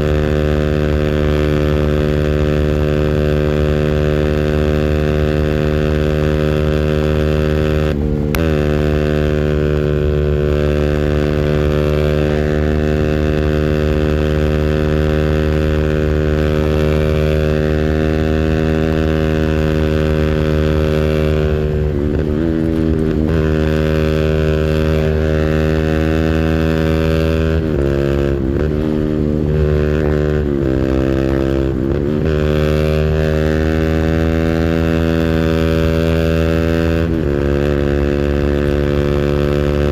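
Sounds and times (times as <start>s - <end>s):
engine revving on rev limiter: 0.0s - 39.9s.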